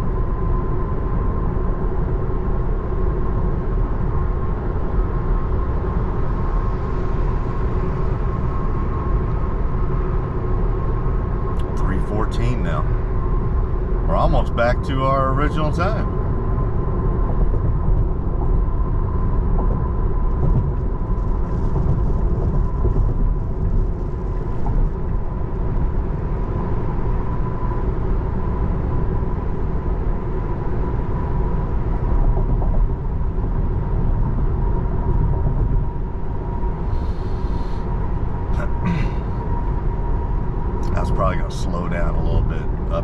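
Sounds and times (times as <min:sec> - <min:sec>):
road and tyre noise in car: 0:00.0 - 0:43.0.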